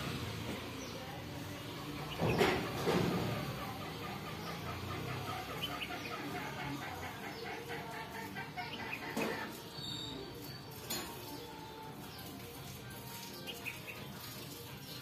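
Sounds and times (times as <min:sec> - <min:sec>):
fast repeated bird notes: 0:02.0 - 0:10.8, 0:11.8 - 0:15.0
harsh bird calls: 0:02.0 - 0:12.4, 0:13.2 - 0:15.0.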